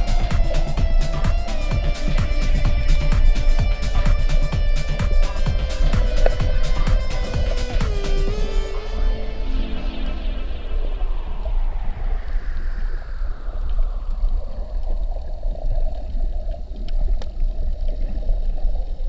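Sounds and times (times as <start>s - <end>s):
distant motorboat engine underwater: 0.0s - 19.0s
low rumble of moving water: 0.0s - 19.0s.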